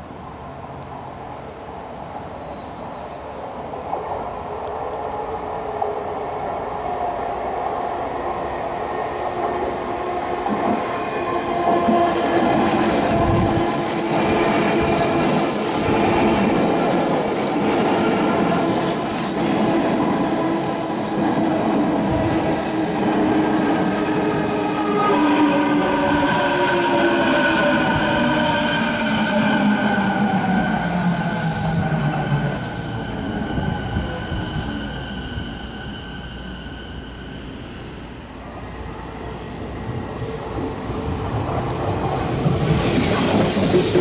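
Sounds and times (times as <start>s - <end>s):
electric train running past: 0.0s - 44.0s
train hum: 0.0s - 44.0s.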